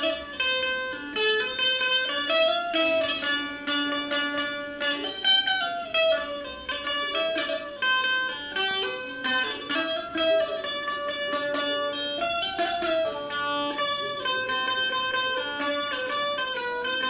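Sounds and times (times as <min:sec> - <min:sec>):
keyed zither melody: 0:00.0 - 0:17.0.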